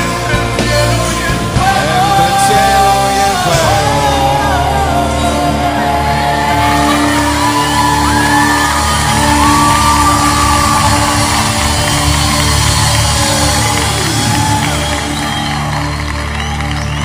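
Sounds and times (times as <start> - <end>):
low drone: 0.0 - 17.0
wavering held vocals: 0.1 - 15.8.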